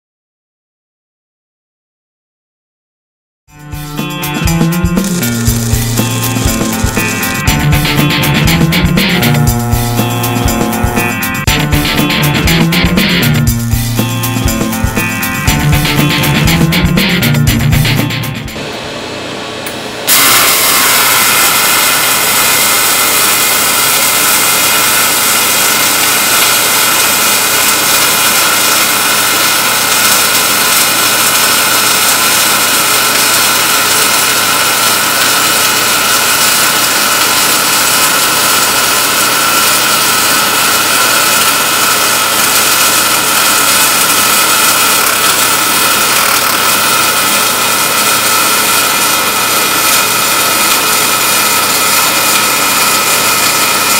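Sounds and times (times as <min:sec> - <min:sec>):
welding arc: 0:03.9 - 0:18.8, 0:19.7 - 0:53.9.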